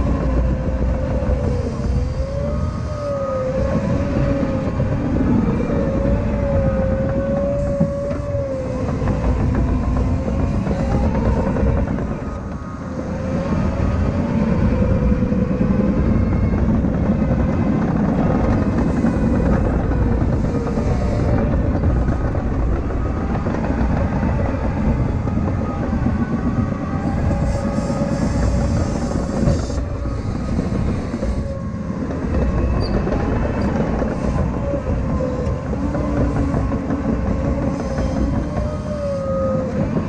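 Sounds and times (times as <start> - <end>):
wavering whine: 0.0 - 40.0.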